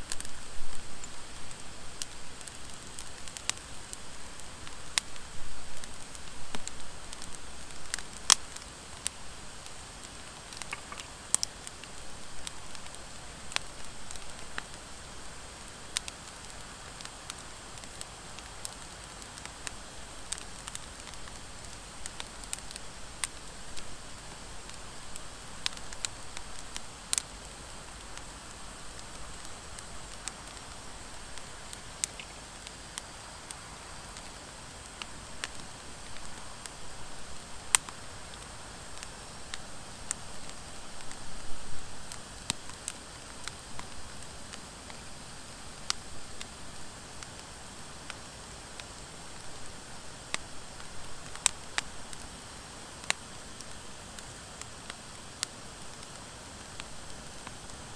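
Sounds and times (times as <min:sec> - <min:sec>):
fire crackling and popping: 0:00.0 - 0:57.9
fire hissing: 0:00.0 - 0:57.9.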